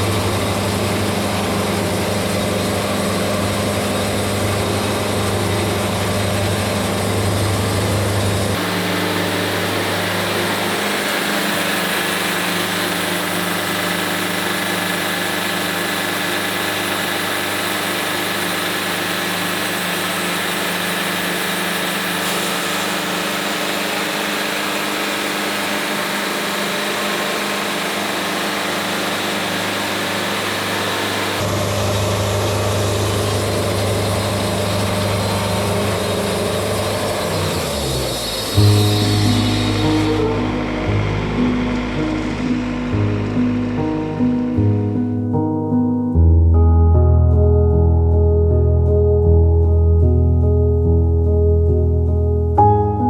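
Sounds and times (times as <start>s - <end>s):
sawmill engine running: 0.0s - 45.3s.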